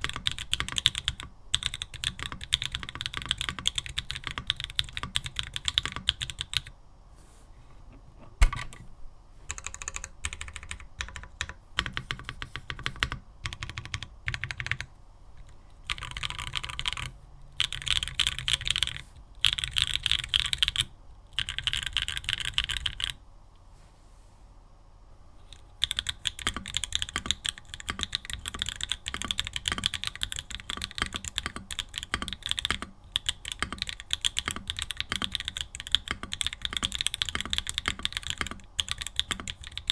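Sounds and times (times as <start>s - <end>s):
typing on mechanical keyboard: 0.0s - 6.7s, 9.5s - 14.9s, 15.8s - 23.2s, 25.5s - 39.9s.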